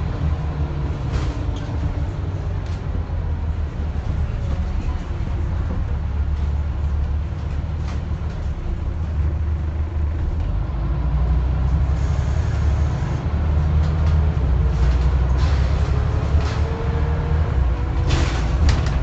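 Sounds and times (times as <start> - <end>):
bus body rattles: 0.0 - 19.0
bus diesel engine droning: 0.0 - 19.0.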